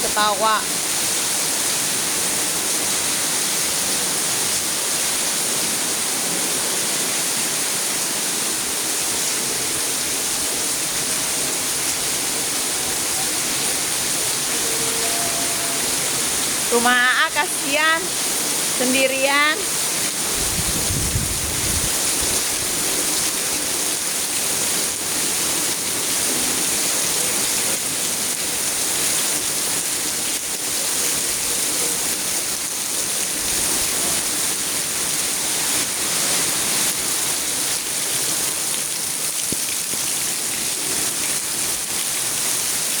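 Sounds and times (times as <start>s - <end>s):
rain falling: 0.0s - 43.0s.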